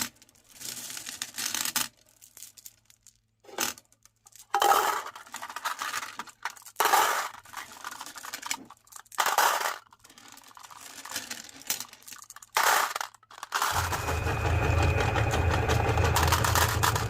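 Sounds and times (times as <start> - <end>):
glass marbles clattering: 0.0 - 13.8.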